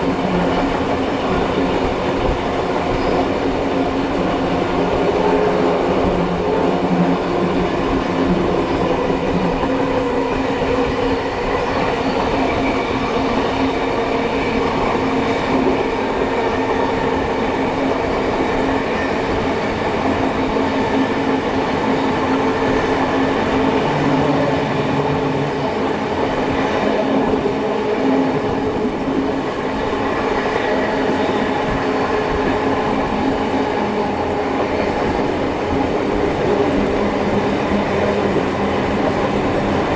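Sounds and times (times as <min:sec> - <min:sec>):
low train rumble: 0:00.0 - 0:39.9
train wheels on rails: 0:00.0 - 0:39.9.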